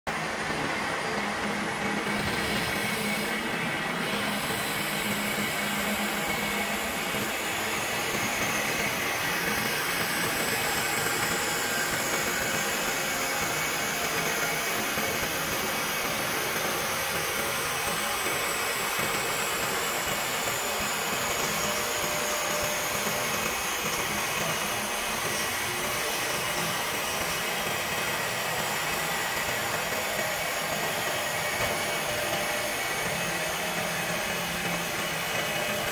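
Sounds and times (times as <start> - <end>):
high machine whine: 0.1 - 35.9
wood lathe cutting: 0.1 - 35.9.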